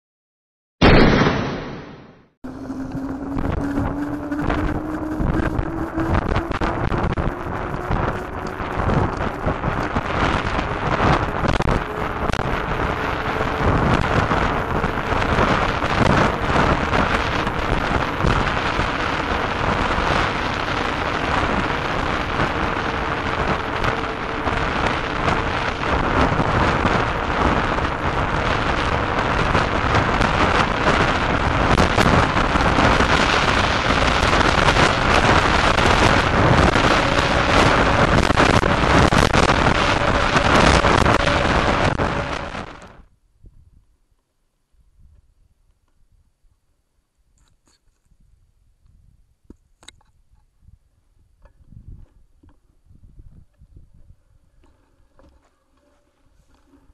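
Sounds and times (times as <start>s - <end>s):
wind buffeting microphone: 2.5s - 44.0s, 48.0s - 56.9s.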